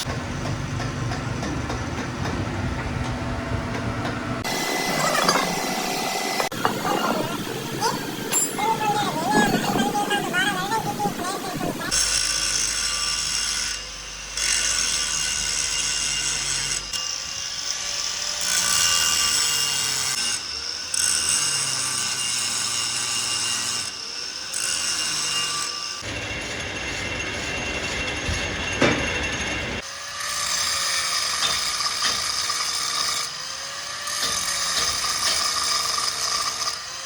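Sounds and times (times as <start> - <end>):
power tool grinding metal: 4.4 - 37.0.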